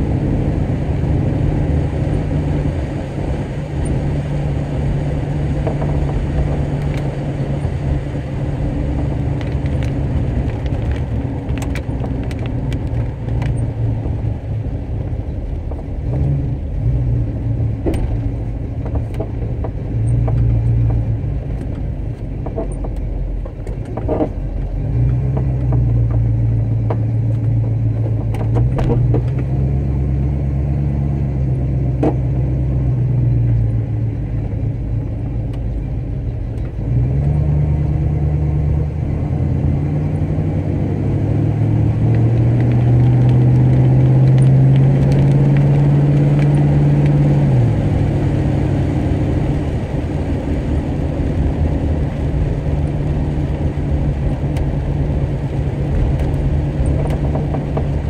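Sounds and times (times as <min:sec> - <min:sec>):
car engine drone from inside: 0:00.0 - 0:58.0.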